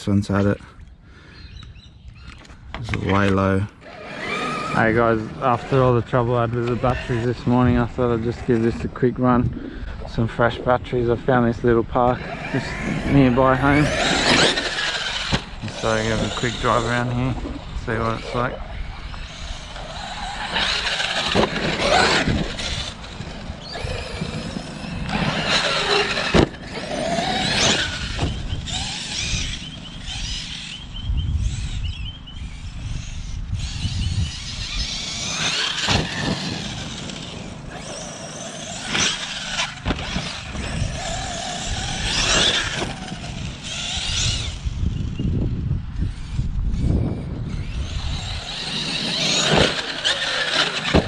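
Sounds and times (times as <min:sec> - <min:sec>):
electric motor whining: 0:02.1 - 0:51.0.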